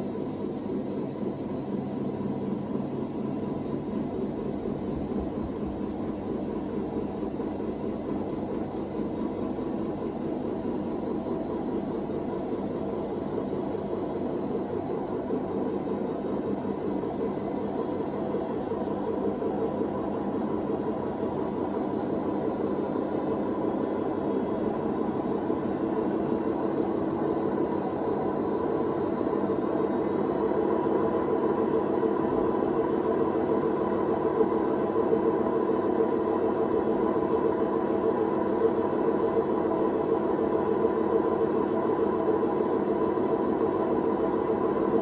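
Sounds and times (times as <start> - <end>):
washing machine spinning with grinding: 0.1 - 45.0.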